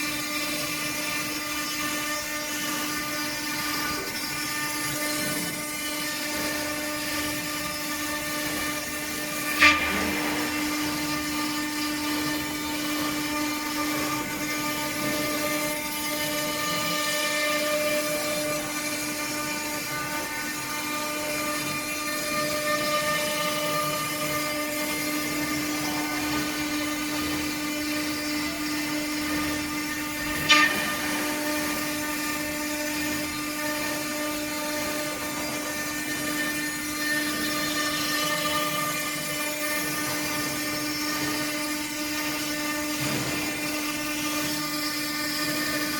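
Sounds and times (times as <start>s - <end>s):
router spindle whining: 0.0s - 45.9s.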